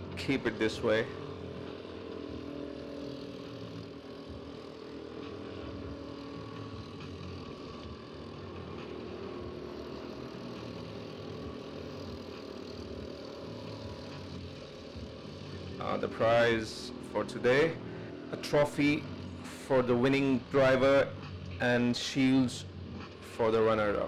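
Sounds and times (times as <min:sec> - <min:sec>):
go-kart engine drone: 0:00.0 - 0:24.0.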